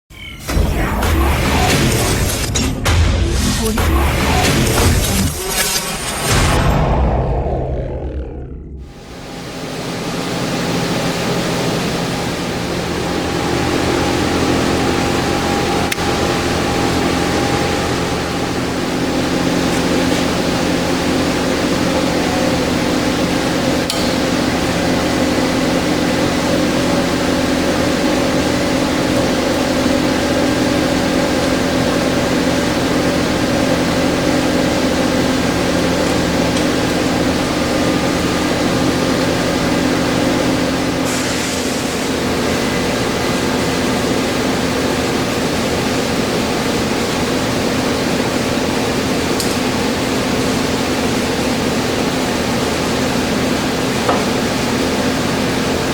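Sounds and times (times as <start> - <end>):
mechanical noise with low hum: 0.1 - 55.9.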